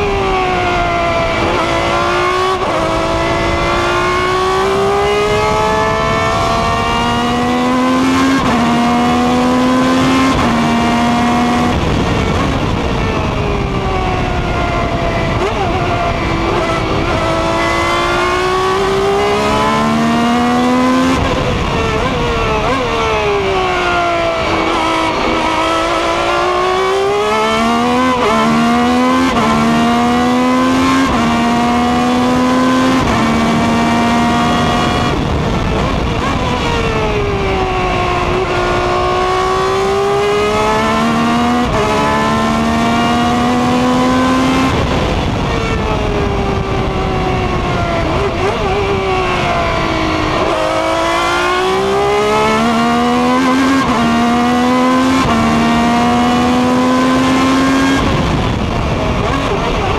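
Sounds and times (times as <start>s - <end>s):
racing engine accelerating: 0.0s - 59.9s.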